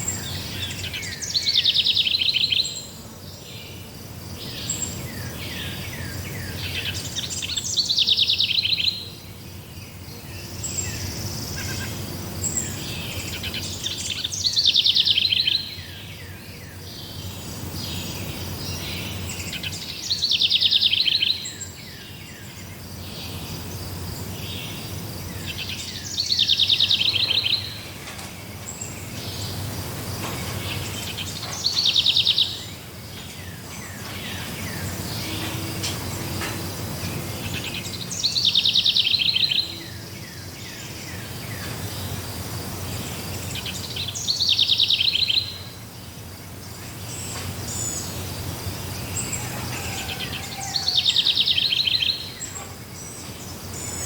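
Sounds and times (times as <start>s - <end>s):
songbird trilling: 0.0s - 3.0s, 4.5s - 9.1s, 10.4s - 23.6s, 24.2s - 42.2s, 42.8s - 45.9s, 46.7s - 54.0s
forest background hiss: 0.0s - 54.0s.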